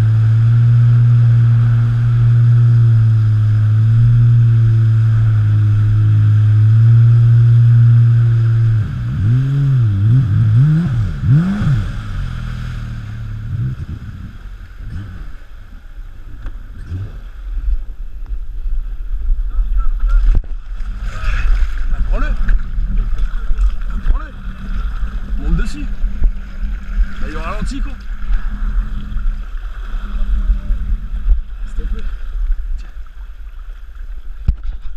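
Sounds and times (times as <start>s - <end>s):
jet ski engine running: 0.0s - 34.9s.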